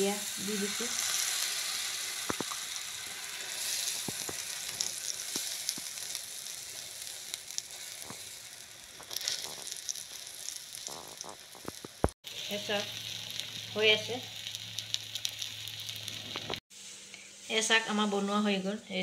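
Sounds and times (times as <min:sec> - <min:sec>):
batter sizzling on griddle: 0:00.0 - 0:18.5.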